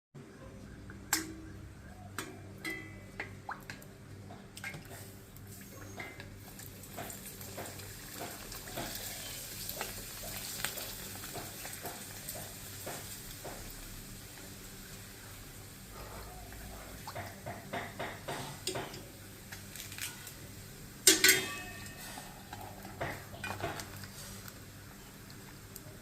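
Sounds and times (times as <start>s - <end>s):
crackers sizzling in hot oil: 2.6s - 26.0s.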